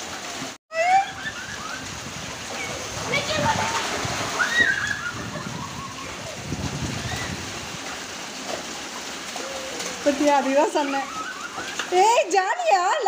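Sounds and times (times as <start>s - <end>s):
heavy rain splashing on concrete: 0.0s - 13.0s.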